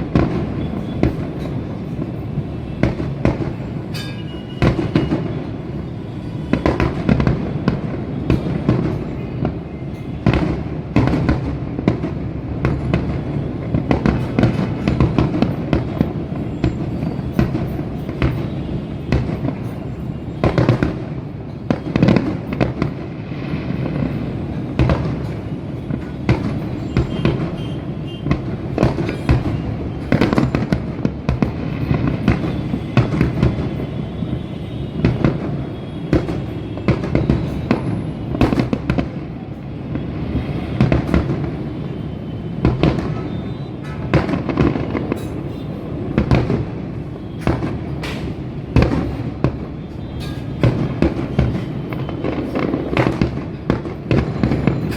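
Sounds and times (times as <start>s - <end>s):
distant fireworks crackling: 0.0s - 54.9s
firework bangs: 0.0s - 54.9s.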